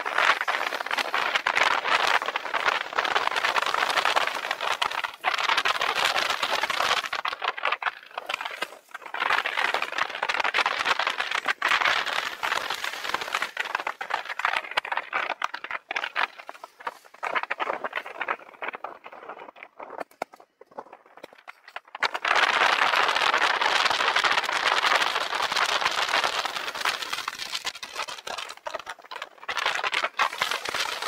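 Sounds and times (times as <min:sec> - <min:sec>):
bicycle tyres rattling on tarmac: 0:00.0 - 0:31.0
wind: 0:00.0 - 0:31.0.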